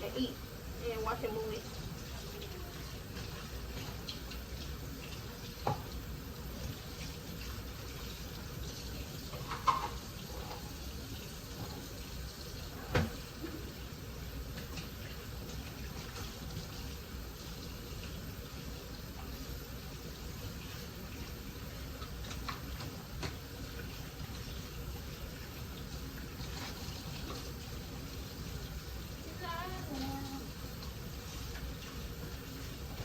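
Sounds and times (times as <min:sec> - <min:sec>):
steady watery hiss: 0:00.0 - 0:33.0.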